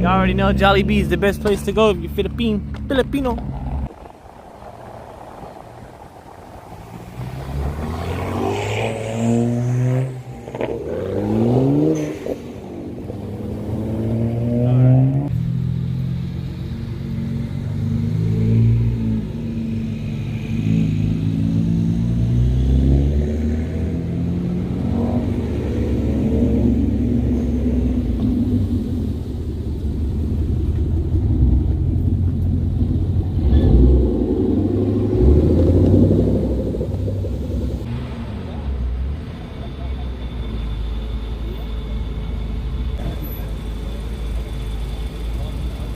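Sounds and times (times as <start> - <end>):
car engine revving: 0.0 - 39.2.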